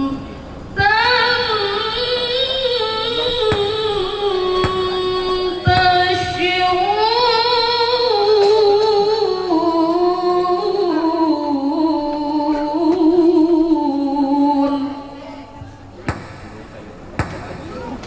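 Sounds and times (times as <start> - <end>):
woman reciting melodically: 0.0 - 15.9.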